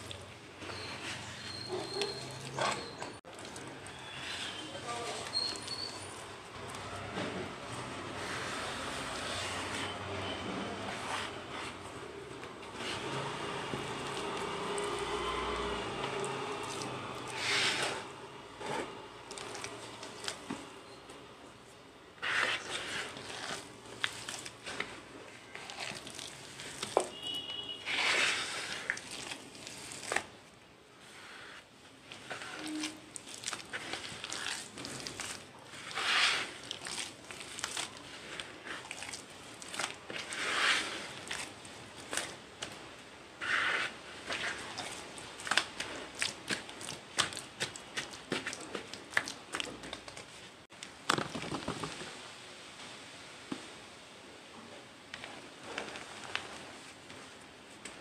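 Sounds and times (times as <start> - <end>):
hands squelching wet cement paste: 0.0 - 20.9, 21.7 - 50.6.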